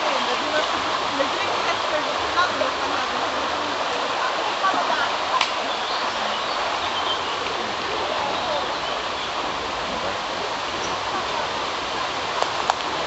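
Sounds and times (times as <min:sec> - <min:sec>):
mountain river flowing: 0:00.0 - 0:13.0.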